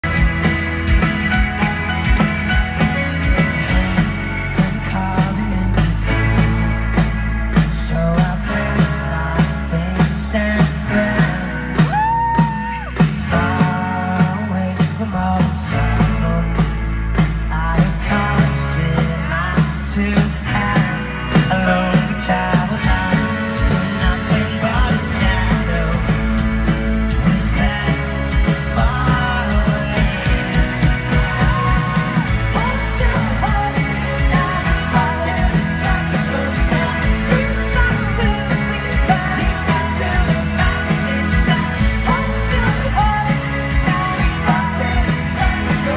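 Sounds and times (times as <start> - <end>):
bass guitar: 0.0 - 45.9
drums: 0.0 - 45.9
electric guitar: 0.0 - 45.9
person singing: 0.0 - 45.9.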